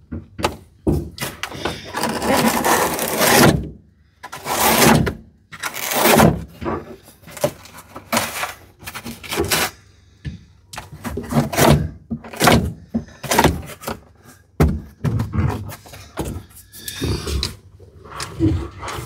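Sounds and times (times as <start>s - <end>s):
plastic cover thunking and scraping: 0.0s - 17.2s.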